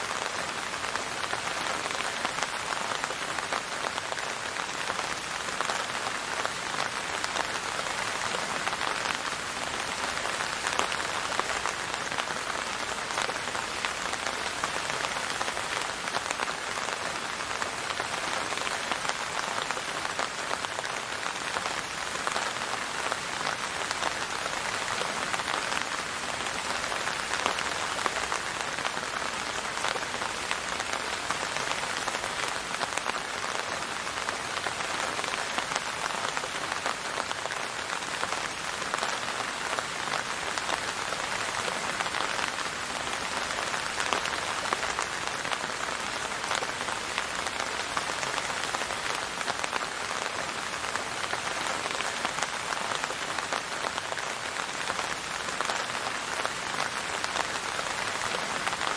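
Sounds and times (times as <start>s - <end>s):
rain pattering on a surface: 0.0s - 58.9s.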